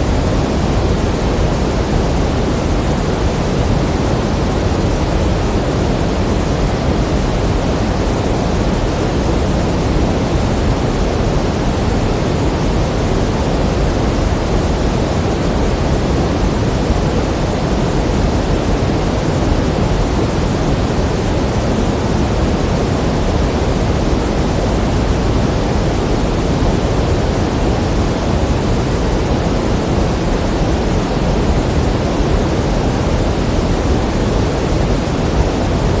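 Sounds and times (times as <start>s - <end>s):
pink noise hiss: 0.0s - 36.0s.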